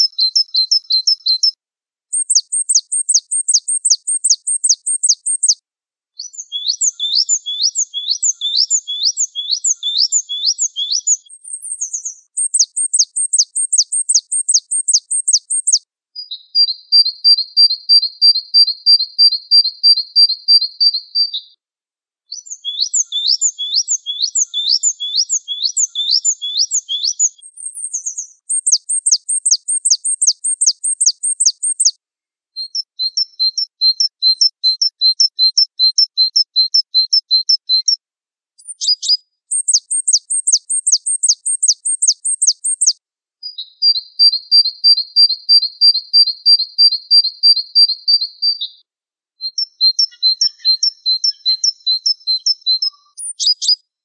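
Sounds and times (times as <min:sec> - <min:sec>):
songbird chirping: 0:00.0 - 0:05.6, 0:06.2 - 0:21.6, 0:22.3 - 0:32.0, 0:32.6 - 0:38.0, 0:38.6 - 0:46.6, 0:49.5 - 0:53.9.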